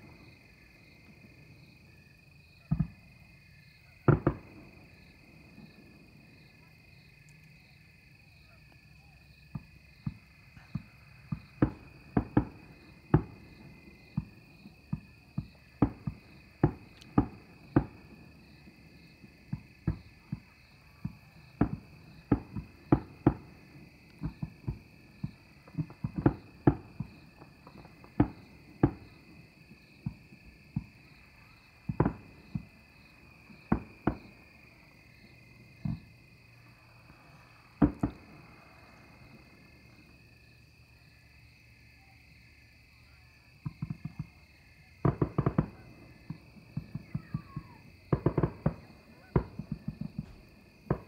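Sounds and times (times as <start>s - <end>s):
crickets chirring: 0.0s - 51.0s
distant fireworks bangs: 2.6s - 3.2s, 3.8s - 6.7s, 9.5s - 40.1s, 43.6s - 51.0s.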